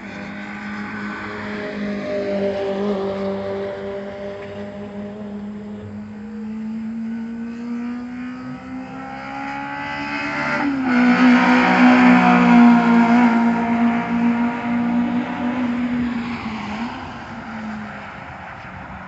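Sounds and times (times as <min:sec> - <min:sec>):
car engine revving: 0:00.0 - 0:18.2.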